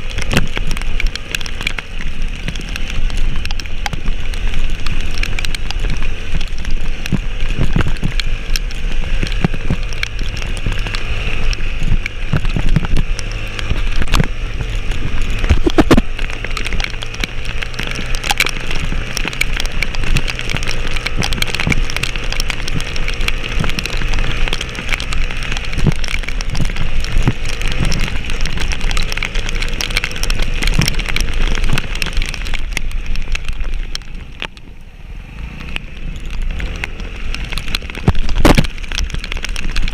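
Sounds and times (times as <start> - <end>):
heavy rain pattering: 0.0 - 39.9
vehicle engine running: 0.0 - 39.9.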